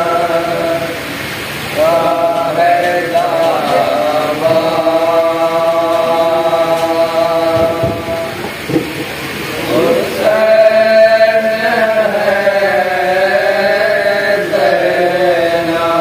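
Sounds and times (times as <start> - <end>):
men chanting a lament: 0.0 - 8.6, 9.6 - 16.0.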